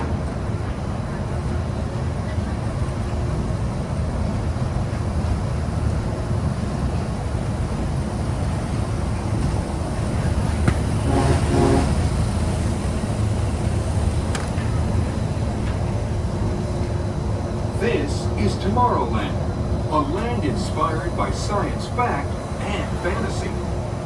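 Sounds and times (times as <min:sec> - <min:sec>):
monorail train rumbling: 0:00.0 - 0:24.0.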